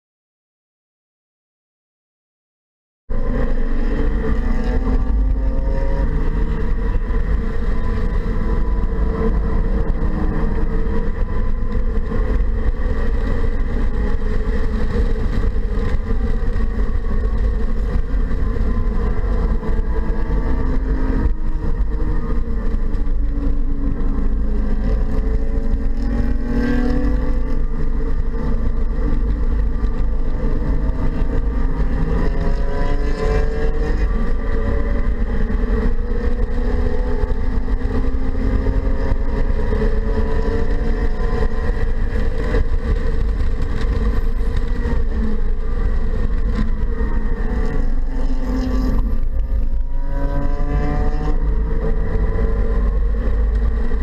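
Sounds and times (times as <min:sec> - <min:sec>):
car engine revving: 0:03.1 - 0:54.0
road noise rumble: 0:03.1 - 0:54.0.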